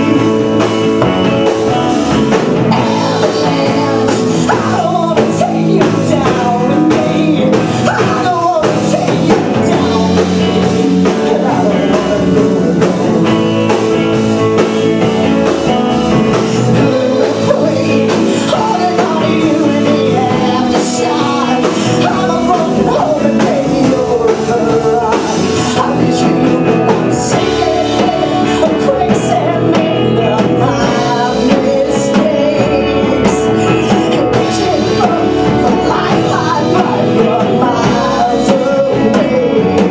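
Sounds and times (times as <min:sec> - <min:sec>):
woman singing into microphone: 0:00.0 - 0:02.0, 0:02.7 - 0:14.8, 0:16.4 - 0:39.9
live rock band playing: 0:00.0 - 0:39.9.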